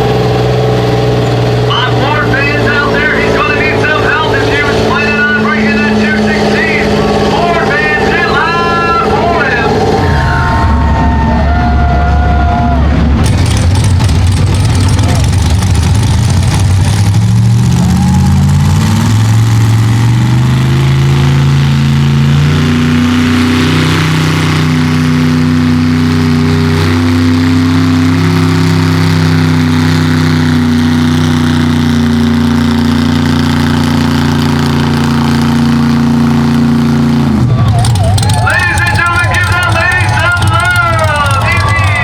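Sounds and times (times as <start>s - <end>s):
truck engine at full throttle: 0.0s - 42.0s.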